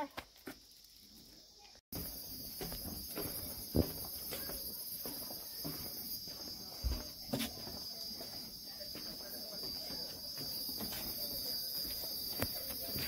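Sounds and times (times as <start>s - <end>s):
insect chorus drone: 0.0s - 13.0s
footsteps on wooden boardwalk: 1.9s - 13.0s.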